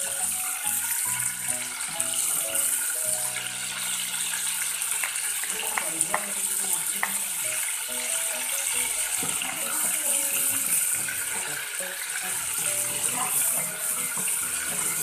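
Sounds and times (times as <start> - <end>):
butter sizzling in a saucepan: 0.0 - 15.0.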